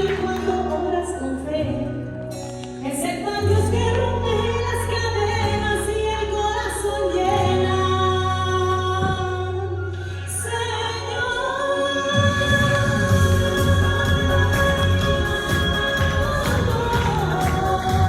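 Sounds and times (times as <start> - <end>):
sustained bass and accompaniment: 0.0 - 18.0.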